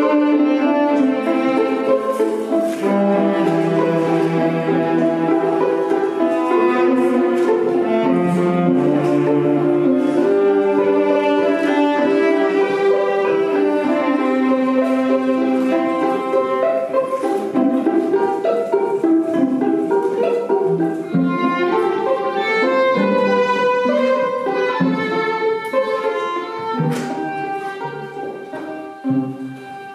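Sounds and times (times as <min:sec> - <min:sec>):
string ensemble playing slowly: 0:00.0 - 0:29.9.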